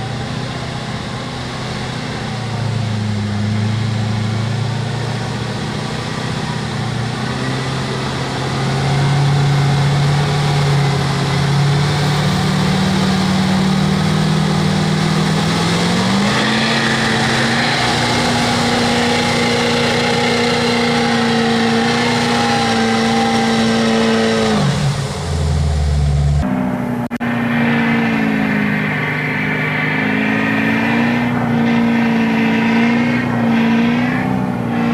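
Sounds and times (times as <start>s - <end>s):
truck engine running under load: 0.0s - 34.9s.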